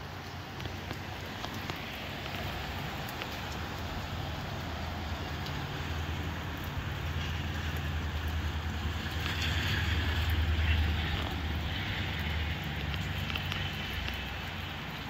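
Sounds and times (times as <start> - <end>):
rain drop ticks: 0.0 - 15.0
rain hiss: 0.0 - 15.0.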